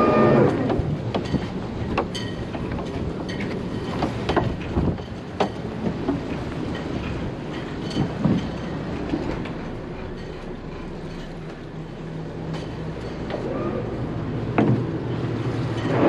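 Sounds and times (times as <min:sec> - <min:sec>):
boat engines idling: 0:00.0 - 0:16.0.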